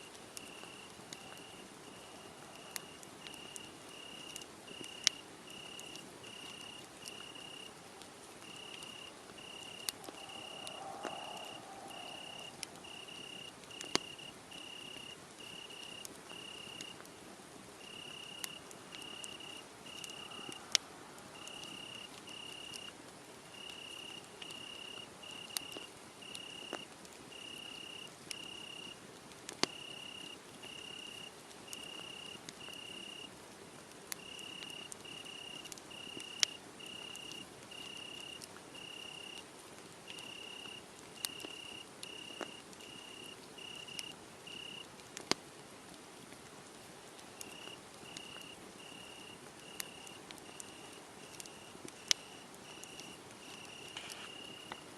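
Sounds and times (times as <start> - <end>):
wood fire crackling and popping: 0.0 - 17.2, 17.8 - 54.9
cricket chirping: 0.4 - 7.7, 8.4 - 17.0, 17.8 - 20.8, 21.4 - 22.9, 23.5 - 29.0, 29.7 - 33.3, 34.2 - 39.4, 40.1 - 44.9, 47.4 - 54.9.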